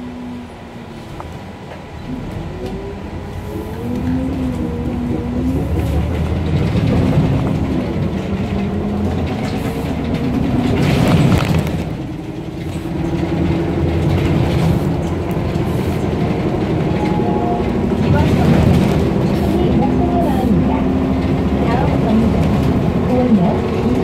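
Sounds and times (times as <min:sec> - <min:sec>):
bus engine drone: 0:00.0 - 0:24.0
road and cabin rumble: 0:00.0 - 0:24.0.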